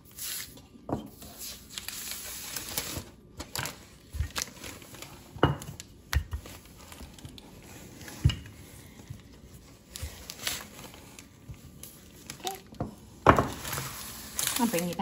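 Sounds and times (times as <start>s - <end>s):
parchment paper rustling: 0.0s - 15.0s.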